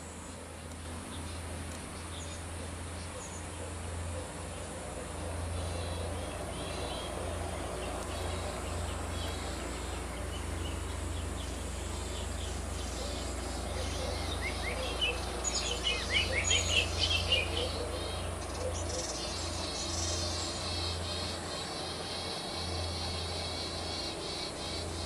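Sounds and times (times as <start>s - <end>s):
steady low hum: 0.0s - 25.0s
bird chicks chirping: 1.2s - 25.0s.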